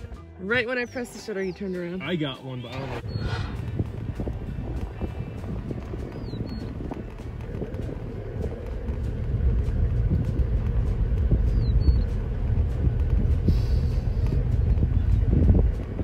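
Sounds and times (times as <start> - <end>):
vehicle engine and tyres rumbling: 0.0 - 16.0.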